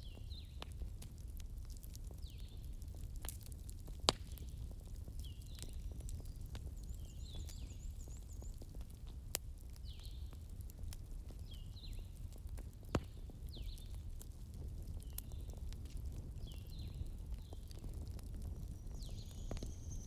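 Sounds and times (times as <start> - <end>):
small birds chirping: 0.0 - 0.8, 1.6 - 2.8, 4.2 - 10.6, 11.2 - 20.0
wood fire crackling and popping: 0.0 - 20.0.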